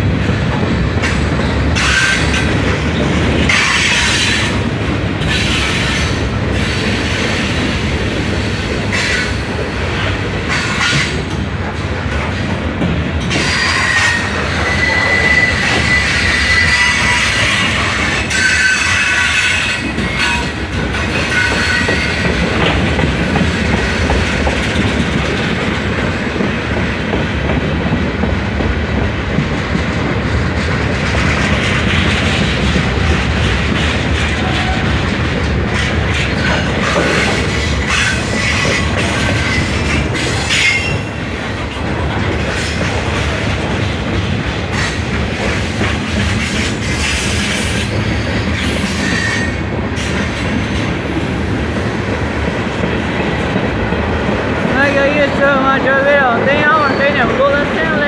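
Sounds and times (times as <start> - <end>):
train wheels rumbling on rail: 0.0 - 58.0
wheels clacking over rail joints: 0.0 - 58.0.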